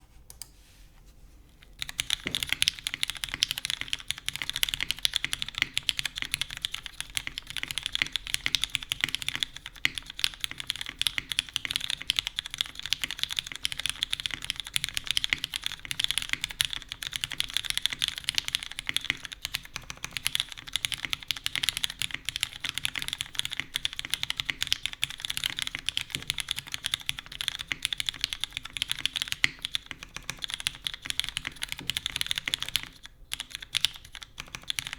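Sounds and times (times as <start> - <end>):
mechanical keyboard typing: 1.7 - 34.9.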